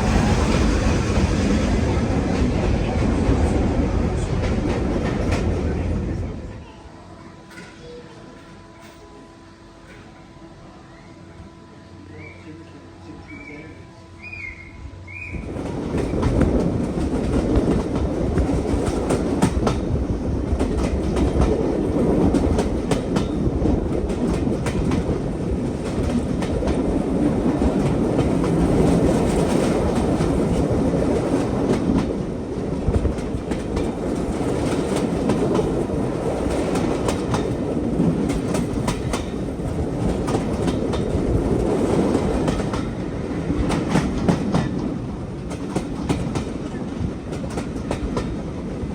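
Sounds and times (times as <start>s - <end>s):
train rumbling on track: 0.0s - 48.9s.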